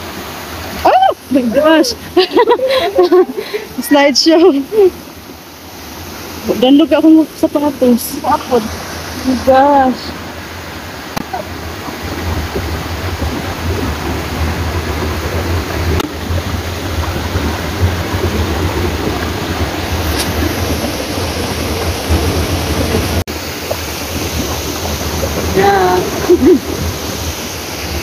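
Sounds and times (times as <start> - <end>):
stream rushing over boulders: 0.0 - 28.0.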